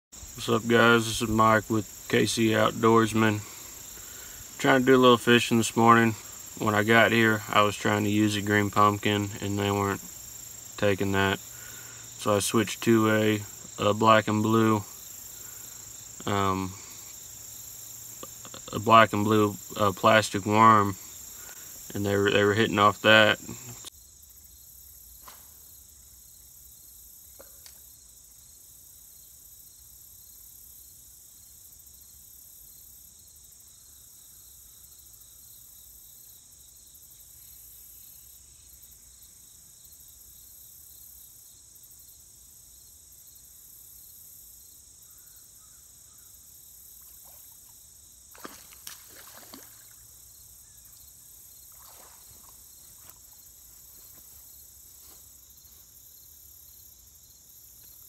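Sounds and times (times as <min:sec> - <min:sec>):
insects chirring: 0:00.1 - 0:58.0.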